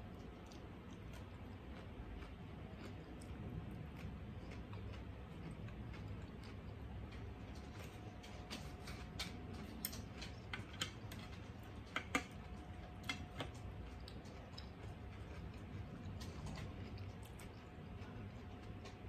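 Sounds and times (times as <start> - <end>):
chewing clicks: 0.0 - 7.7, 8.8 - 19.0
low background hum: 0.0 - 19.0.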